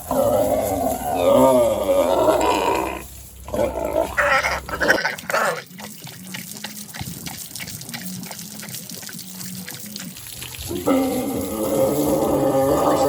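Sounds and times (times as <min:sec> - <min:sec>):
pigs squealing and grunting: 0:00.0 - 0:08.8, 0:10.6 - 0:13.0.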